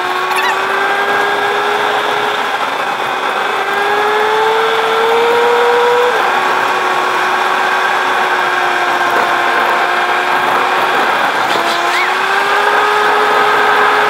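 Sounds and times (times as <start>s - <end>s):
car engine whine: 0.0s - 14.0s
road noise: 0.0s - 14.0s.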